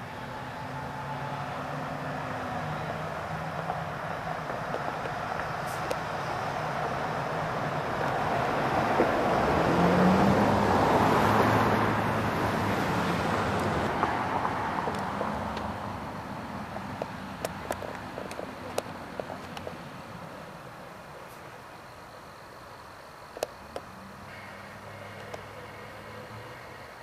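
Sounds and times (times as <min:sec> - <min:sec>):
car driving past: 0:00.0 - 0:18.6, 0:23.9 - 0:27.0.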